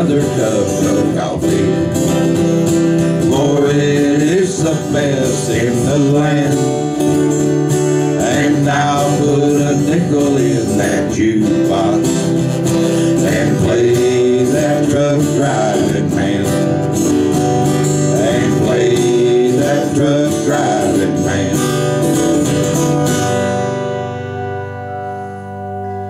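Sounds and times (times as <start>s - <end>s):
acoustic guitars strumming: 0.0s - 26.0s.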